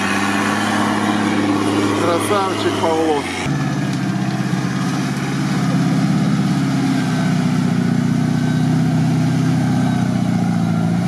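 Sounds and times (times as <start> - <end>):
engine running under load: 0.0 - 11.0.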